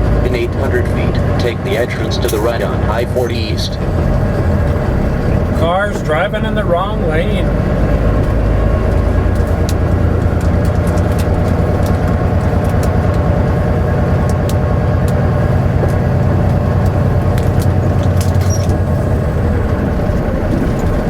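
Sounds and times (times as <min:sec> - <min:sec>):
road rumble: 0:00.0 - 0:21.0
truck engine drone: 0:00.0 - 0:21.0.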